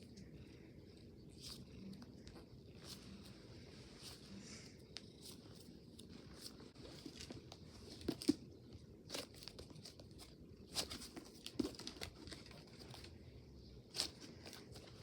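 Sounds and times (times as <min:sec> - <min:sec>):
soft crinkles and clicks of handling: 0:01.4 - 0:15.0.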